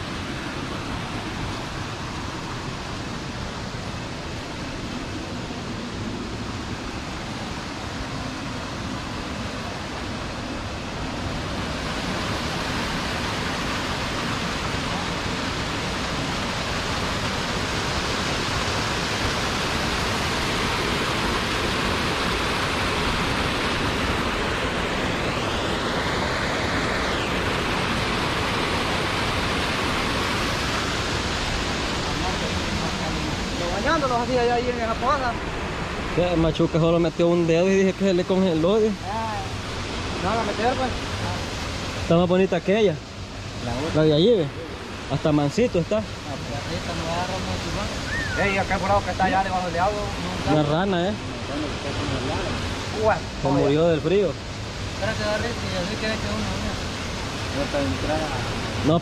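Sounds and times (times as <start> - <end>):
waterfall rushing into pool: 0.0 - 59.0.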